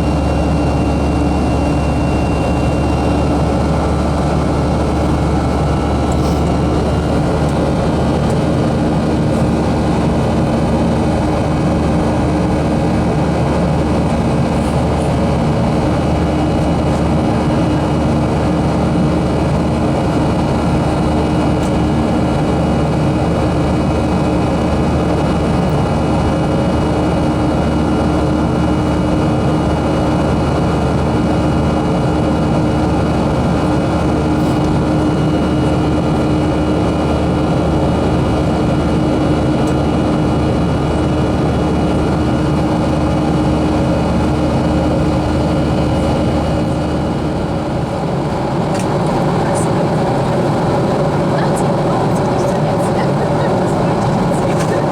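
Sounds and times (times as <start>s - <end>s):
jet engines humming: 0.0s - 54.9s.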